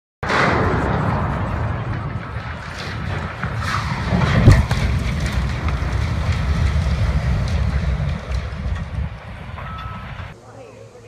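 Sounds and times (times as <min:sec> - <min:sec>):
debris crackling: 0:00.2 - 0:10.4
low rumble of metal tank: 0:00.3 - 0:10.4
wind buffeting microphone: 0:00.7 - 0:10.4.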